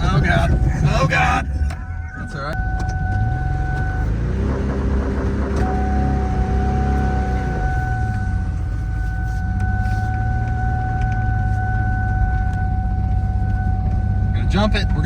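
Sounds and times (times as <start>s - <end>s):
car engine rumbling with whine: 0.0s - 15.0s.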